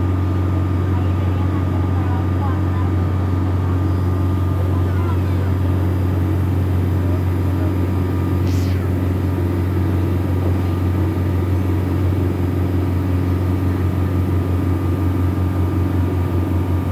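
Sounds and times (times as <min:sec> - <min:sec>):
boat engine humming: 0:00.0 - 0:16.9.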